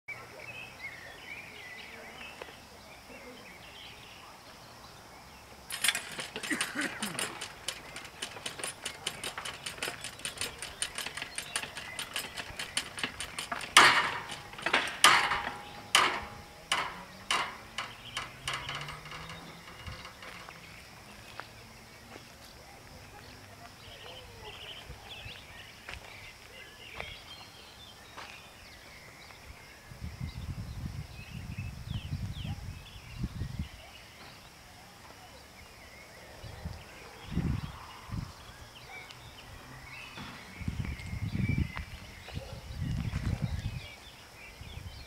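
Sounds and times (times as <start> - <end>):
faint birdsong: 0.1 - 45.0.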